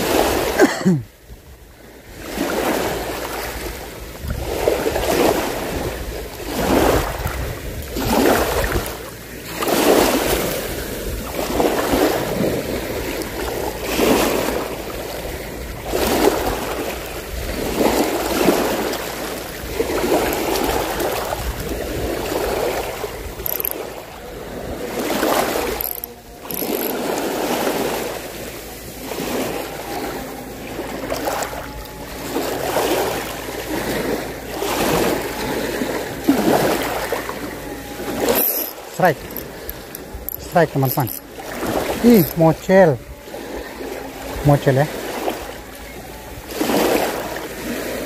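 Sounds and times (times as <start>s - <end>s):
small waves washing ashore: 0.0s - 48.0s.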